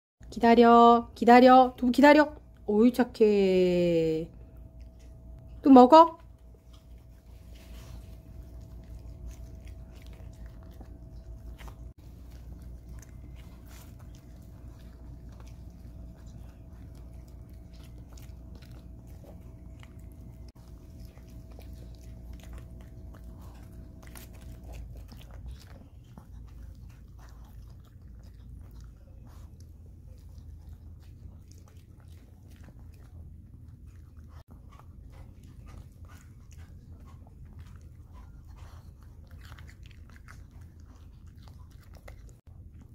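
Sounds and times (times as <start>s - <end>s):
low background hum: 0.2s - 42.9s
dog crunching food: 6.3s - 42.9s.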